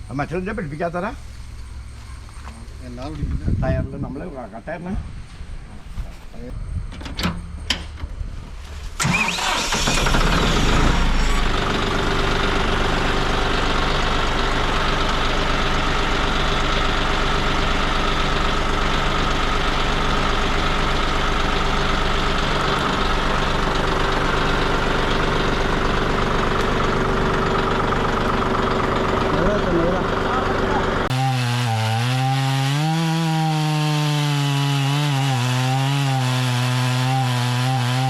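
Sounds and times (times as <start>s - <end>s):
tractor engine starting and running: 6.9s - 38.0s.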